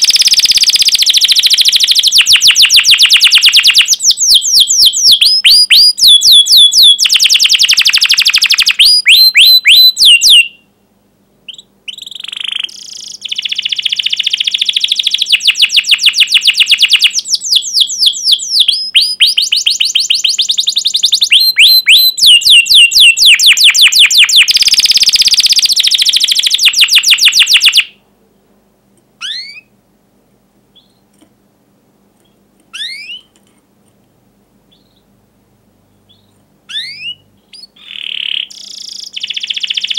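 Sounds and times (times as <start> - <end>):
canary singing: 0.0 - 10.7, 11.5 - 28.0, 29.2 - 29.8, 30.7 - 31.1, 32.2 - 33.4, 34.7 - 35.2, 35.9 - 39.9.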